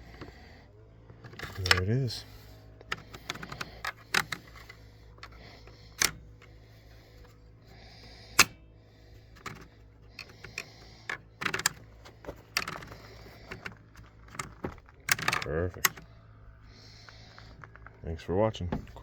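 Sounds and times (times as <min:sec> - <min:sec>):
sharp clicks and knocks of motor parts: 0:00.0 - 0:18.0, 0:18.6 - 0:19.0
low steady hum: 0:00.0 - 0:19.0.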